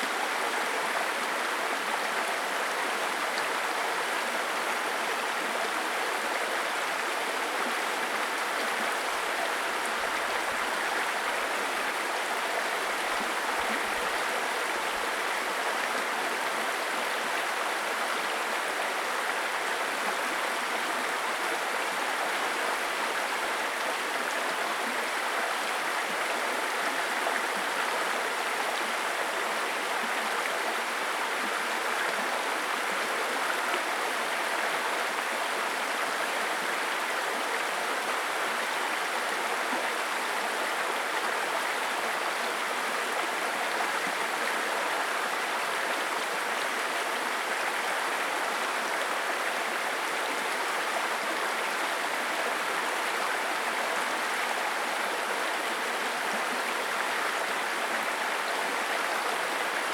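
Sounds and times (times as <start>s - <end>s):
stream babbling over stones: 0.0s - 59.9s.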